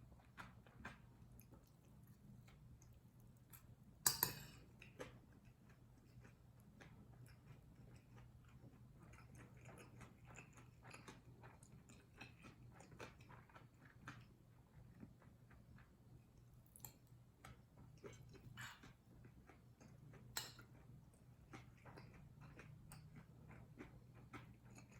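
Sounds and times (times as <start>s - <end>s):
chewing with wet mouth clicks: 0.0s - 24.9s.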